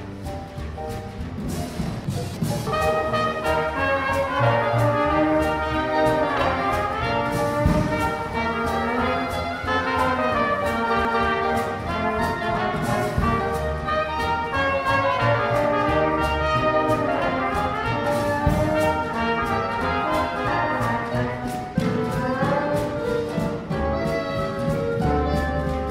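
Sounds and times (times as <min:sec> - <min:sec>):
bass: 0:00.0 - 0:25.9
drums: 0:00.0 - 0:25.9
piano: 0:00.0 - 0:25.9
trombone: 0:00.0 - 0:25.9
trumpet: 0:02.6 - 0:25.9
clarinet: 0:02.7 - 0:25.9.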